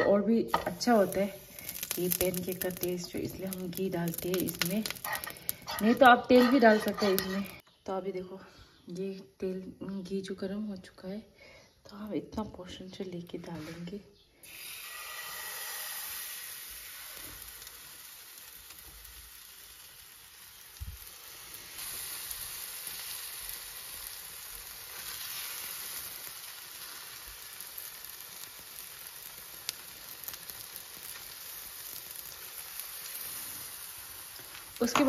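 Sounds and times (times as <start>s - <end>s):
batter sizzling in a frying pan: 0.0s - 7.6s, 14.4s - 35.0s.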